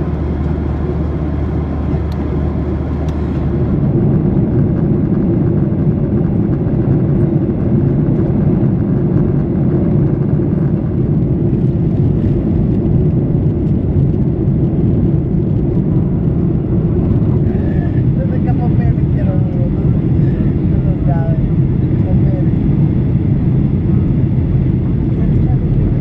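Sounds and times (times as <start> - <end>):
jet engine low rumble: 0.0 - 26.0.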